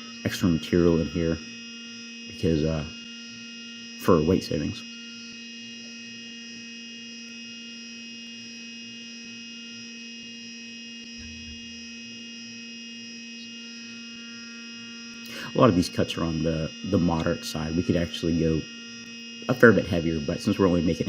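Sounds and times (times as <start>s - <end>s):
milling machine humming and whining: 0.0s - 21.0s.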